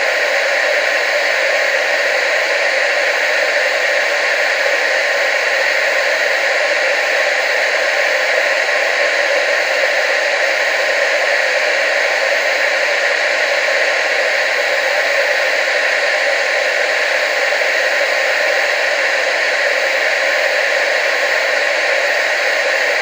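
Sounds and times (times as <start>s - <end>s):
tv static hiss: 0.0s - 23.0s.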